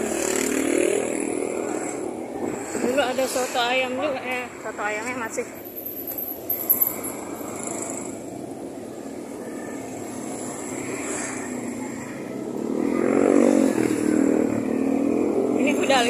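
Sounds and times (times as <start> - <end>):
motorcycle engines passing: 0.0 - 16.0
street traffic: 0.0 - 16.0.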